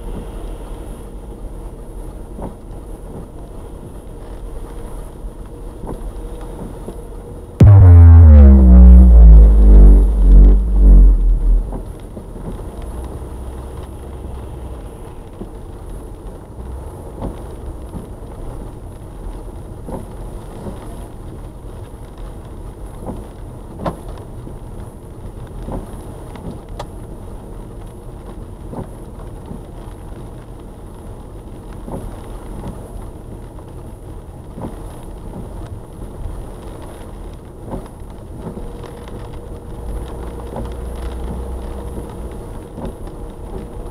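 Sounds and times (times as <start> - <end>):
car engine and tyre rumble: 0.0 - 43.9.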